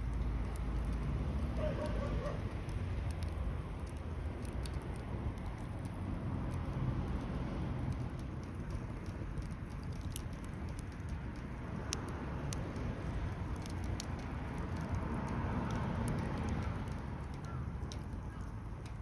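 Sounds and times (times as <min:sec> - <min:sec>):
fire low rumble: 0:00.0 - 0:19.0
wood fire crackling: 0:00.0 - 0:19.0.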